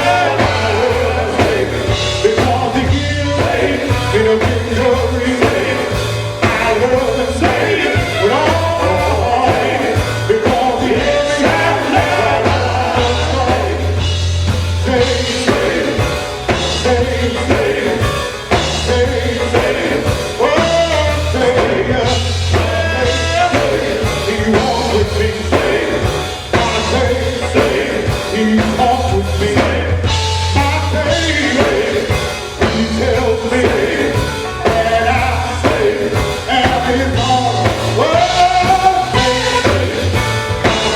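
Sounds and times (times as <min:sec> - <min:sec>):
gospel group singing: 0:00.0 - 0:40.9
live band with bass line: 0:00.0 - 0:40.9.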